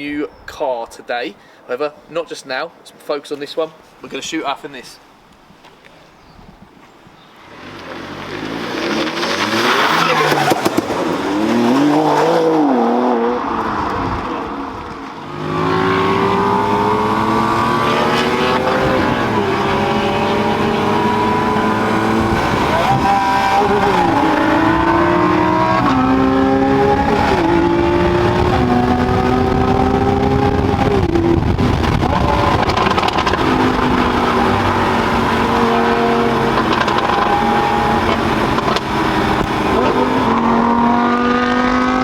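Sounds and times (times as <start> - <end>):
car engine revving: 7.6 - 42.0.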